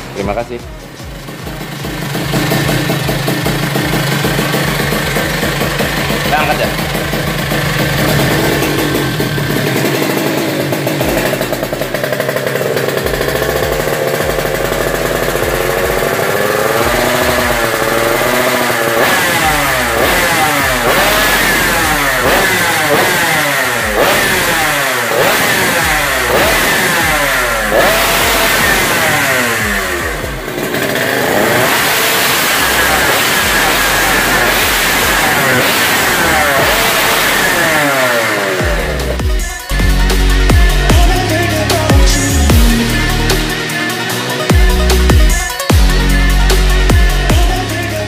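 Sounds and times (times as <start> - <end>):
two-stroke engine idling and revving: 0.0 - 48.0.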